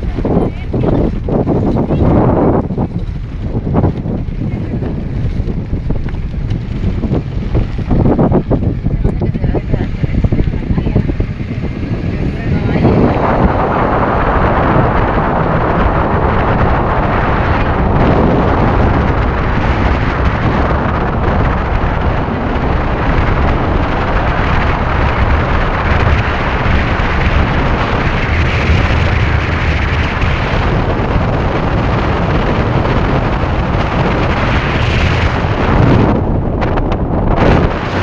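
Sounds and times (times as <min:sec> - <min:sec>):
strong wind buffeting microphone: 0:00.0 - 0:38.0.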